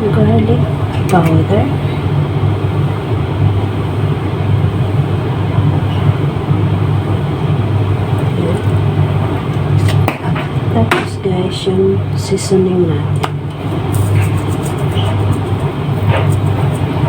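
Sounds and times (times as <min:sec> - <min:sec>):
low rumble with hum: 0:00.0 - 0:17.0.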